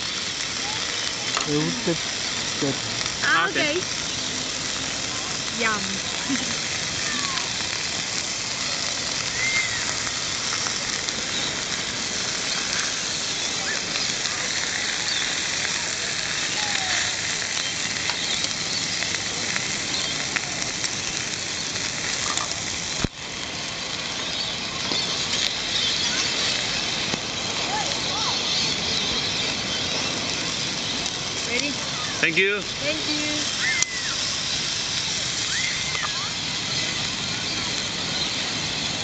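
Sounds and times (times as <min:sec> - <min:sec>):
meat sizzling on a grill: 0:00.0 - 0:39.0.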